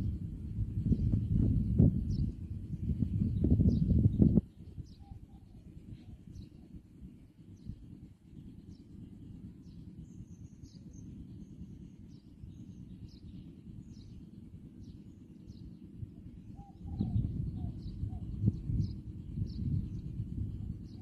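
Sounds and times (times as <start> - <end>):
wind on microphone: 0.0 - 21.0
faint high bird chirps: 0.9 - 21.0.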